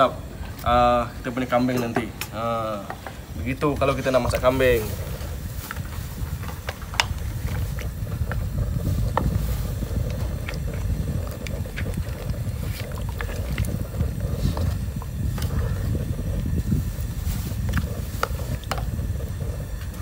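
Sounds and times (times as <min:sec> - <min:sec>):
wind rumble on microphone: 0:02.8 - 0:20.0.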